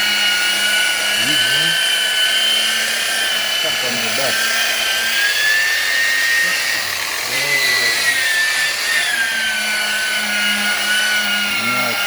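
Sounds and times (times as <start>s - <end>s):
power polisher whining: 0.0s - 12.0s.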